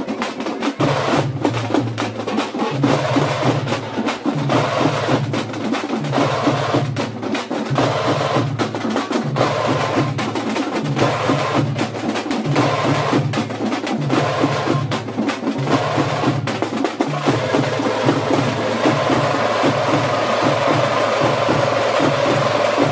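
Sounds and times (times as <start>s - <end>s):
frame drums beaten with sticks: 0.0s - 22.9s.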